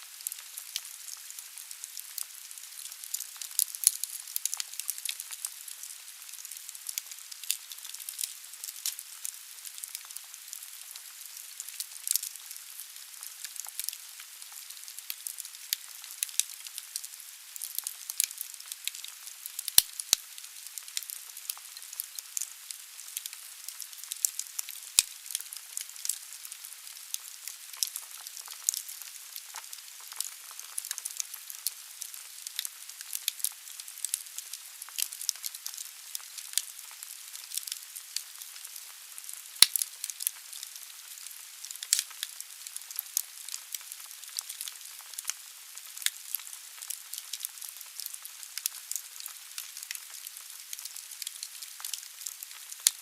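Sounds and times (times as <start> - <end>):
firewood crackling and hissing: 0.0 - 53.0.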